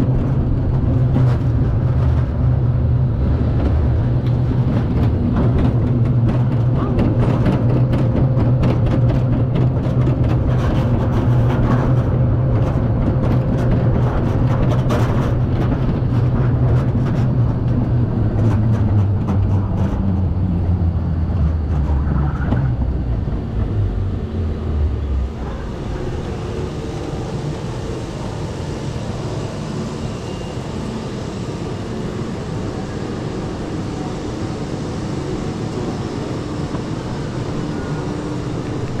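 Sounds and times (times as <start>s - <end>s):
roller coaster car rumbling on track: 0.0s - 39.0s.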